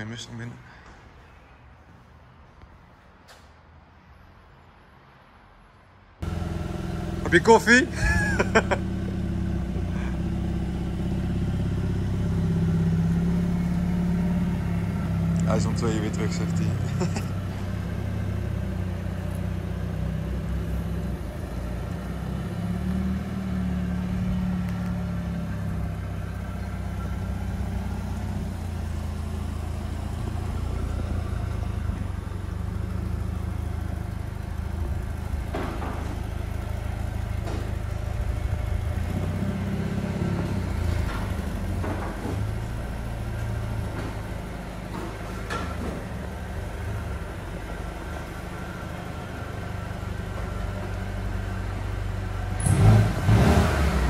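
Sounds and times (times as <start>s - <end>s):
car engine idling: 6.2s - 54.0s.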